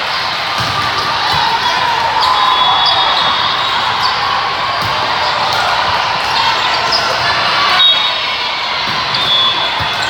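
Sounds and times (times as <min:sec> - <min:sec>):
hubbub of voices: 0:00.0 - 0:10.0
volleyball hits: 0:00.4 - 0:08.1, 0:08.7 - 0:10.0.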